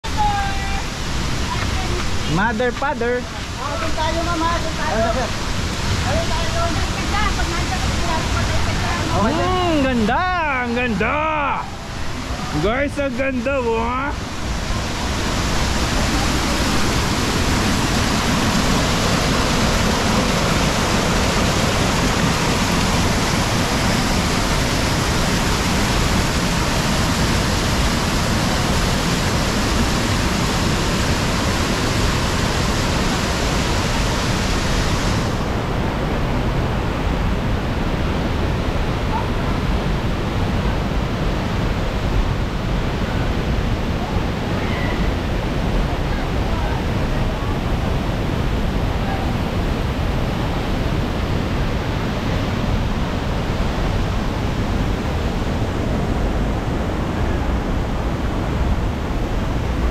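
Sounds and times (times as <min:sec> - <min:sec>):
water rushing over weir: 0:00.0 - 0:59.9.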